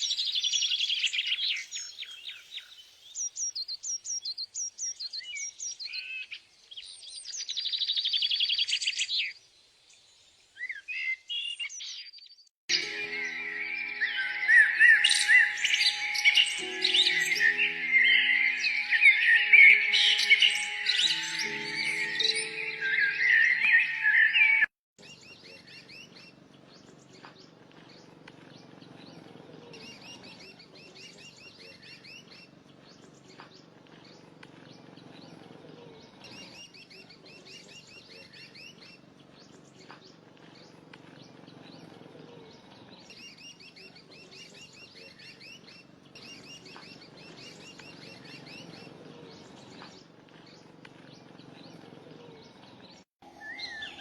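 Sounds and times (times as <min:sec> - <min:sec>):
songbird chirping: 0:00.0 - 0:35.5, 0:36.1 - 0:54.0.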